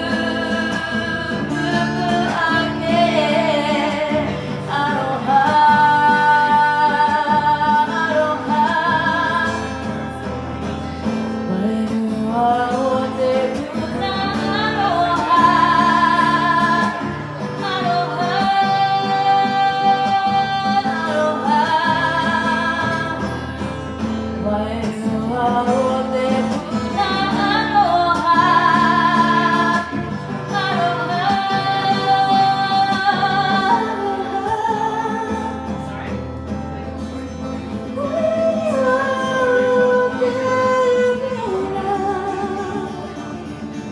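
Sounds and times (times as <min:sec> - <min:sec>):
woman singing slow song: 0:00.0 - 0:36.2, 0:37.4 - 0:43.9
guitar: 0:00.0 - 0:43.9.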